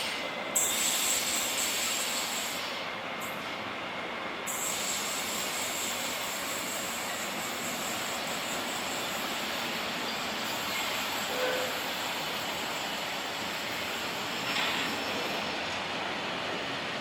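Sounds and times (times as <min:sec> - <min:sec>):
train wheels on track: 0:00.0 - 0:17.0.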